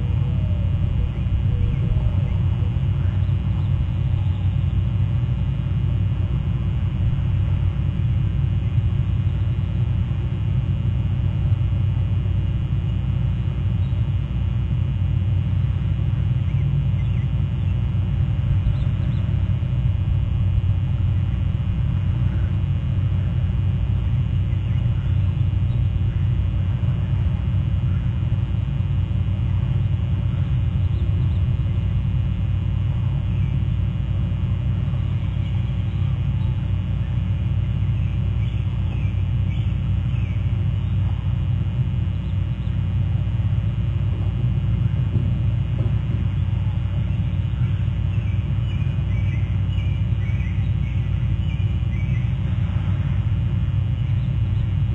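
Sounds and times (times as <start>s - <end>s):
low outdoor rumble: 0.0s - 54.9s.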